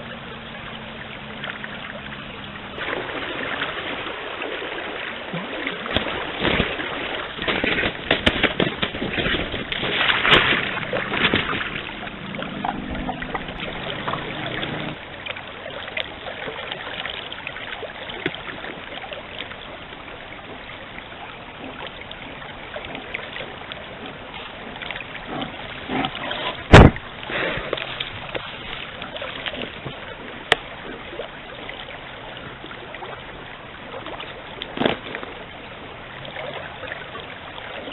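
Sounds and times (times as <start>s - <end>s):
forest stream running: 0.0s - 37.9s
water splashes: 0.0s - 37.9s.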